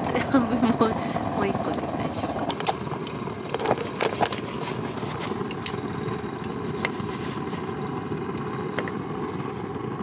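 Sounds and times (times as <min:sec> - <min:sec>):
low rumbling hum: 0:00.0 - 0:10.0.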